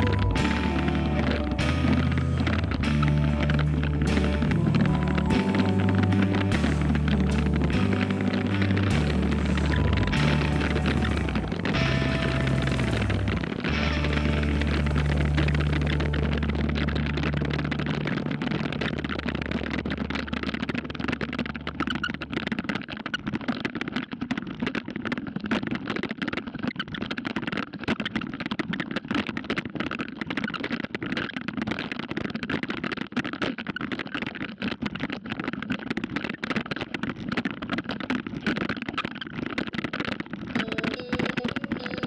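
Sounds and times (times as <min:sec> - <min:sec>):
bicycle rattling over cobblestones: 0:00.0 - 0:42.0.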